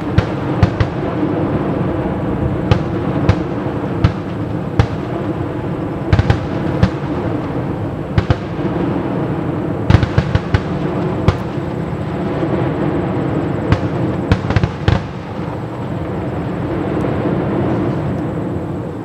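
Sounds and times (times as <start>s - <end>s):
distant fireworks bangs: 0.0s - 19.0s
steady background noise: 0.0s - 19.0s.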